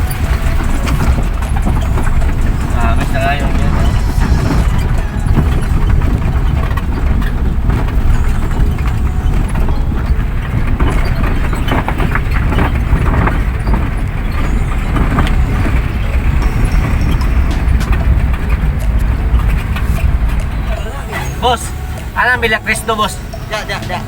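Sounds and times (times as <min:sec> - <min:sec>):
vehicle engine and travel rumble: 0:00.0 - 0:24.0.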